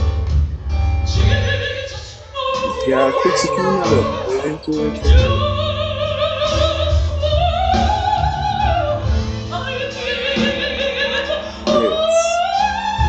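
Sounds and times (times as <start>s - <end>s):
woman singing with vibrato: 1.1s - 13.0s.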